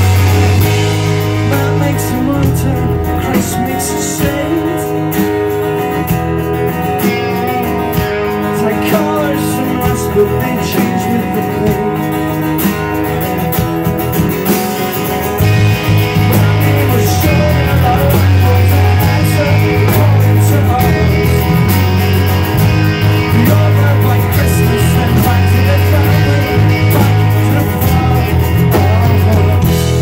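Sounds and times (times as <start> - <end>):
punk band playing live: 0.0 - 30.0.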